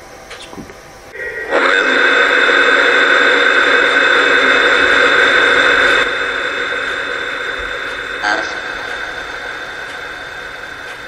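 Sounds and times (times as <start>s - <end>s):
constant high whine: 0.0s - 11.0s
static hiss: 0.0s - 11.0s.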